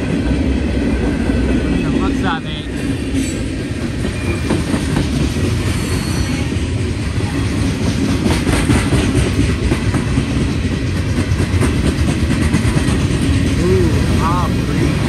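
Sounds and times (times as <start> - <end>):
clickety-clack over rail joints: 0.0 - 15.0
train wheels rumbling on rails: 0.0 - 15.0.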